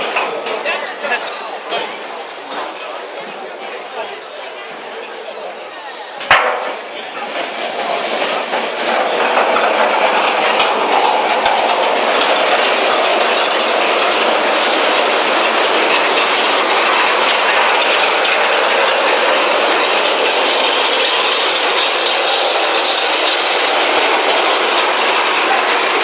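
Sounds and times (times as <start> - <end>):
street procession din: 0.0 - 26.0.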